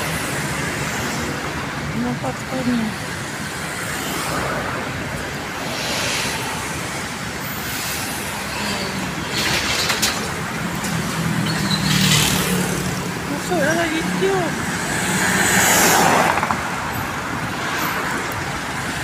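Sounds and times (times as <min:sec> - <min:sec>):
cars passing: 0:00.0 - 0:19.0
traffic hum: 0:00.0 - 0:19.0.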